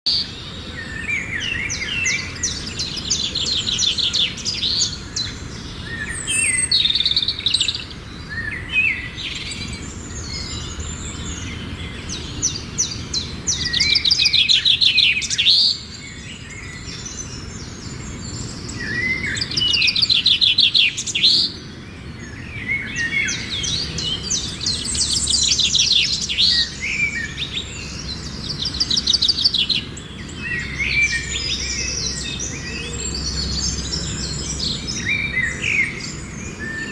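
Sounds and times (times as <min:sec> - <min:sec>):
songbirds singing: 0:00.0 - 0:36.9.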